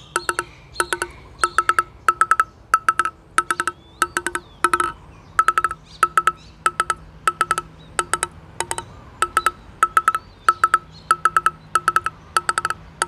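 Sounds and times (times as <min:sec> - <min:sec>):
ball tapping on paddle: 0:00.0 - 0:13.0.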